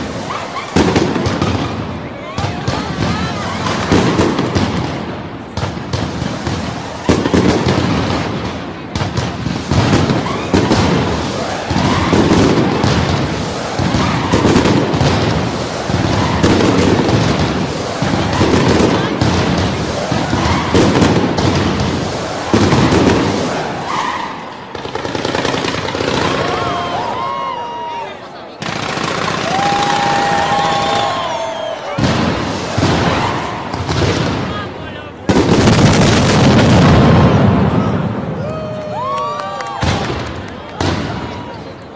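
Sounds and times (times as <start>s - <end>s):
fireworks rapid bangs and crackling: 0.0s - 27.5s, 28.4s - 41.9s
heavy firework blasts: 0.0s - 41.9s.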